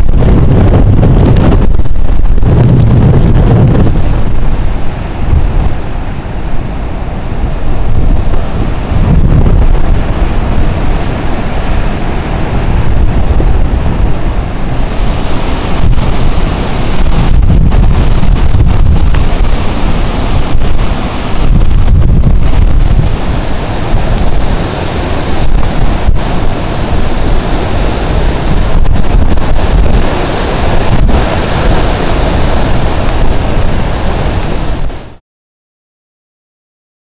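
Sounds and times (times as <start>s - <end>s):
heavy surf breaking: 0.0s - 35.2s
wind buffeting microphone: 0.0s - 35.2s.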